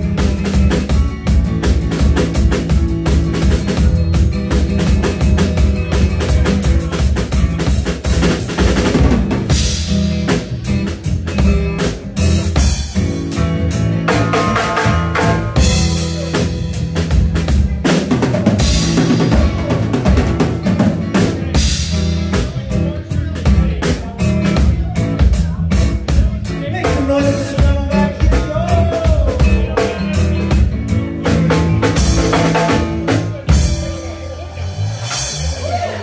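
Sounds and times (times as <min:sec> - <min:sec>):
drum kit: 0:00.0 - 0:36.0
electric bass: 0:00.0 - 0:36.0
guitar: 0:00.0 - 0:36.0.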